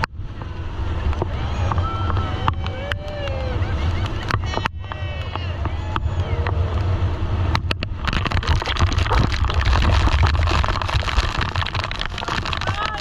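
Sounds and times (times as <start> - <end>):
motorboat engine rumbling: 0.0 - 13.0
wind and water rushing: 0.0 - 13.0.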